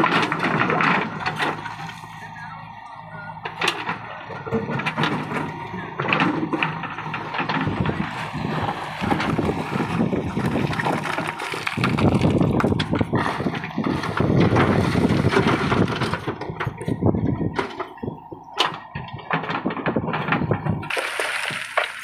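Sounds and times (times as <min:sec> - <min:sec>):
rocks clattering and tumbling: 0:00.0 - 0:02.0, 0:03.8 - 0:16.9, 0:18.6 - 0:22.0
diesel engine under load: 0:00.0 - 0:22.0.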